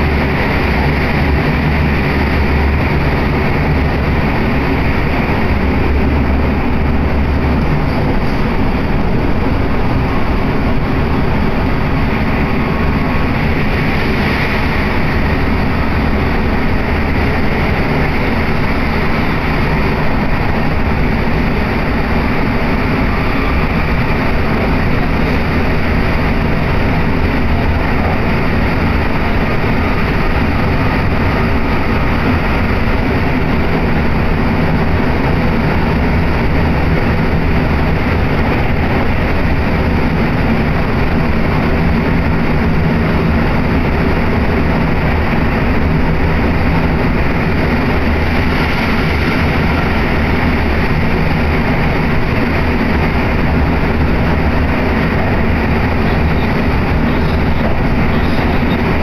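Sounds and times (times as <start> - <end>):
train carriage low rumble: 0.0 - 59.0.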